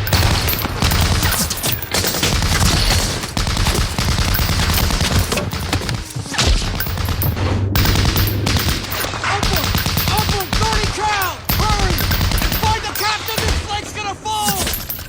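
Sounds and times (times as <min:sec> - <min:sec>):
dense small-arms gunfire: 0:00.0 - 0:13.9.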